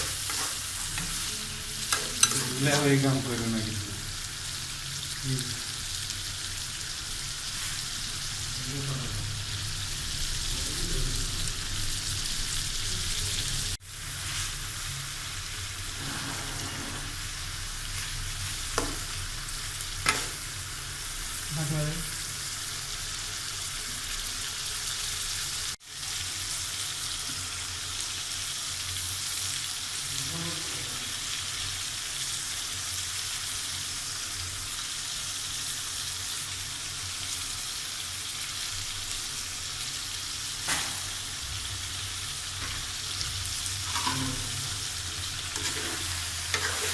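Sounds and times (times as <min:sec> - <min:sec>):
curry sizzling in a pan: 0:00.0 - 0:46.9.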